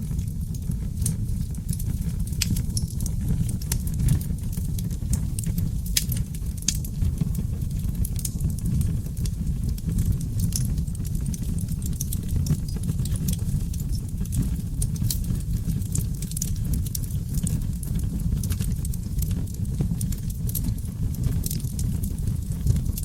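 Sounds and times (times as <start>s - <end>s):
fire flames rumbling: 0.0s - 23.0s
logs crackling and popping: 0.0s - 23.0s.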